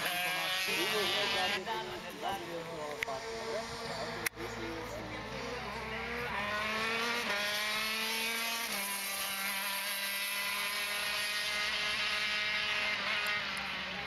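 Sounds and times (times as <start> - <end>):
go-kart engine at high revs: 0.0 - 14.0.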